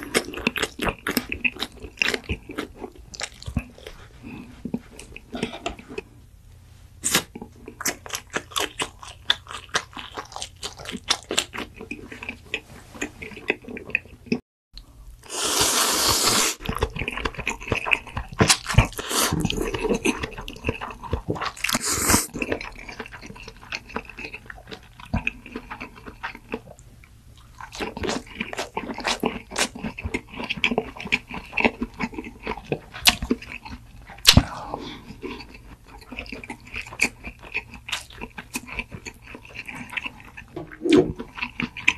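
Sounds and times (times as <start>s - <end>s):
chewing and crunching: 0.0s - 6.2s, 7.1s - 14.4s, 16.6s - 41.9s.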